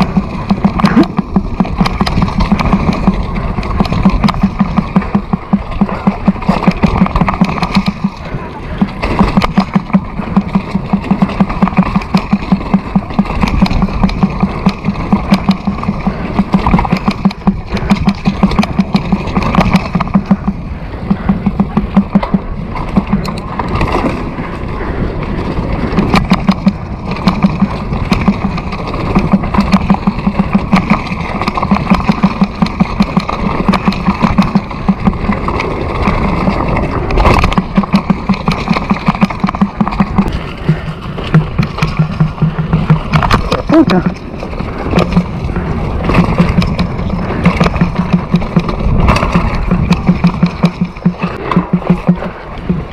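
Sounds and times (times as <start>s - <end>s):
motorcycle engine running: 0.0s - 24.6s, 25.4s - 52.9s
wind rushing over microphone: 0.0s - 52.9s.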